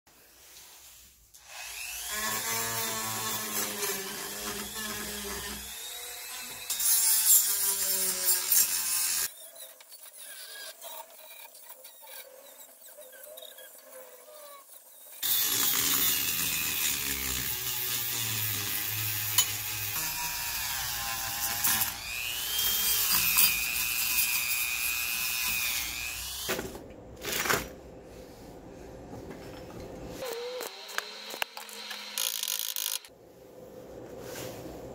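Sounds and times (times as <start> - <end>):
rotary tool grinding metal: 1.4 - 26.4, 30.2 - 33.1.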